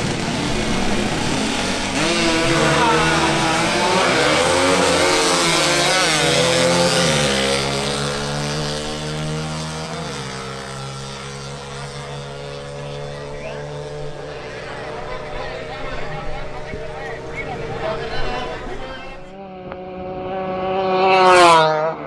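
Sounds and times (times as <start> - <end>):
small motorcycle engines revving: 0.0 - 22.0.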